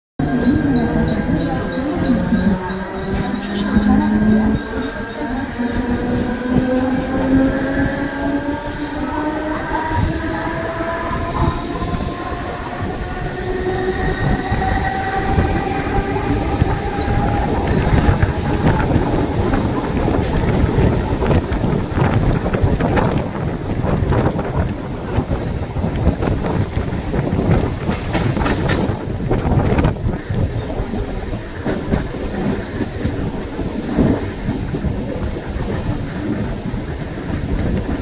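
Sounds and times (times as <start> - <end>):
wheels rumbling on rails: 0.2 - 38.0.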